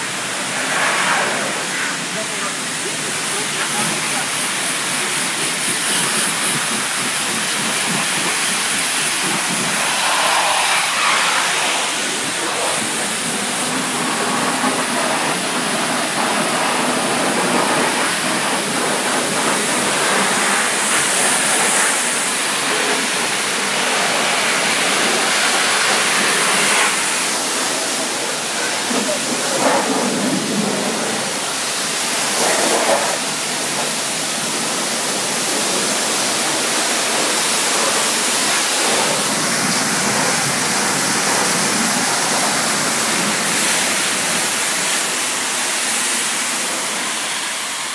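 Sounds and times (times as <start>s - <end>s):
high-pressure water spray: 0.0s - 47.9s.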